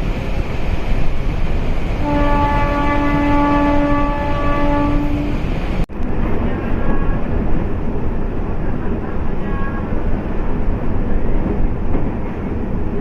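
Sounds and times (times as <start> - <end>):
electric train rumbling and rattling: 0.0 - 13.0.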